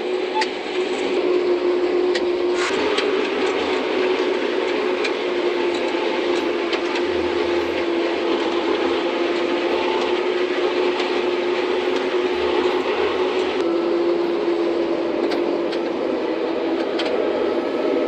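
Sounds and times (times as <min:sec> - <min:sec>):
harvesting machinery humming: 0:00.0 - 0:18.0.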